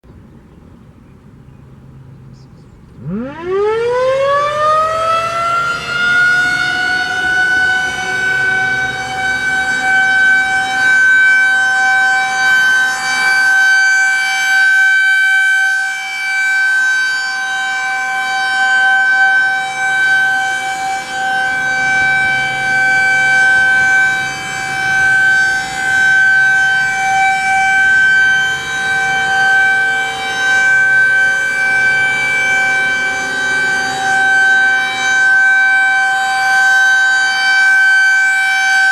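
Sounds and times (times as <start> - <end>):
faint second siren: 2.9 - 38.9
rotating warning siren: 2.9 - 38.9.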